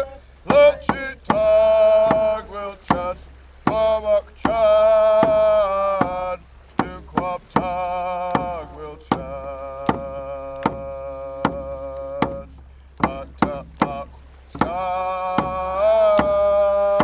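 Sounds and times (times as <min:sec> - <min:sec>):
person singing long notes: 0:00.0 - 0:17.0
steady drumbeat: 0:00.0 - 0:17.0.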